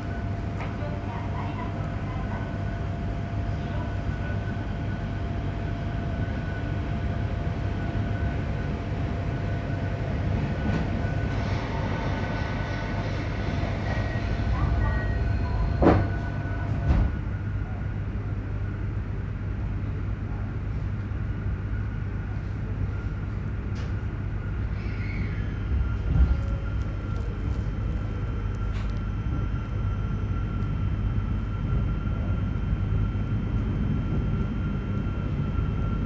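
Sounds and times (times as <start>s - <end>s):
train interior low roar: 0.0s - 36.0s.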